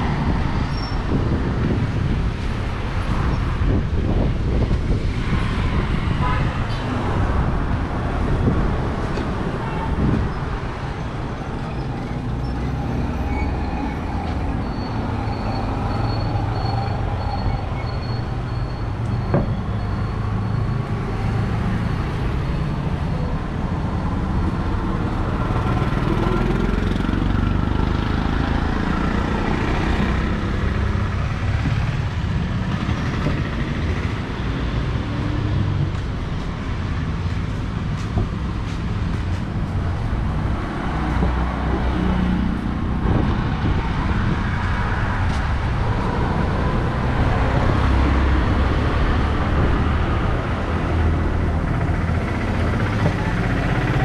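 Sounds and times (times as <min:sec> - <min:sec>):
street traffic noise: 0:00.0 - 0:54.0.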